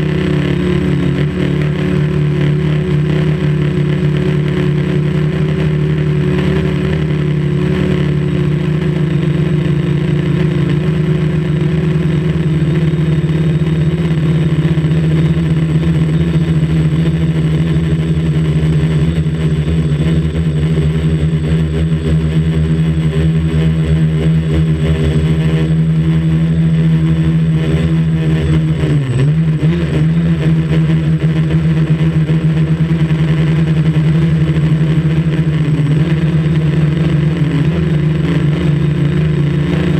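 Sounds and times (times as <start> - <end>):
quadcopter motors humming: 0.0 - 39.9.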